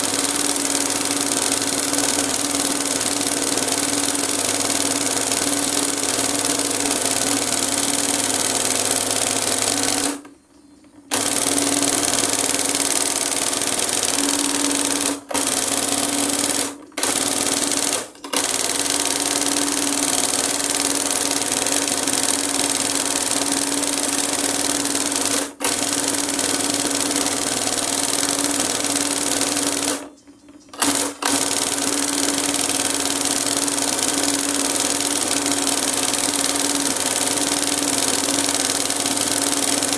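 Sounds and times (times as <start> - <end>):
sewing machine whirring: 0.0 - 10.3, 11.1 - 39.9.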